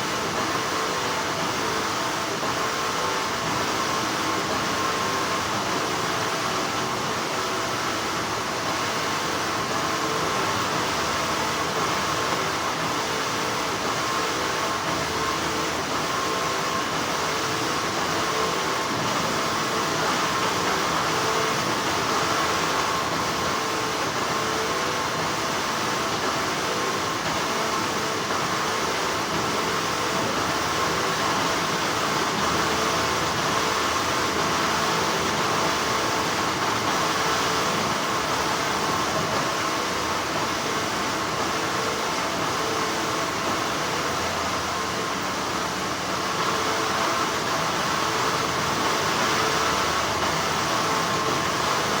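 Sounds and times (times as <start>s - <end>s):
faint constant tones: 0.0s - 52.0s.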